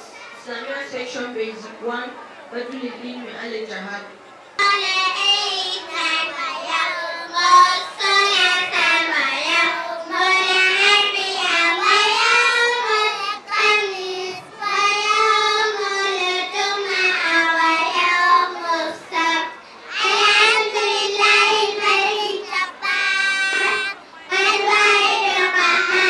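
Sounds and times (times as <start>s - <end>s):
girls singing into microphone: 4.6s - 26.0s.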